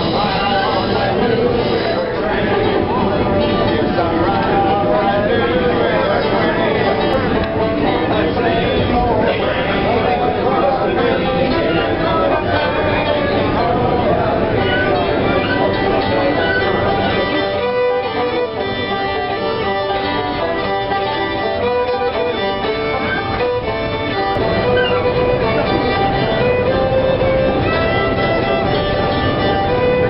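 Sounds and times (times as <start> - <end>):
fiddle playing a tune: 0.0 - 30.0
guitar accompaniment: 0.0 - 30.0.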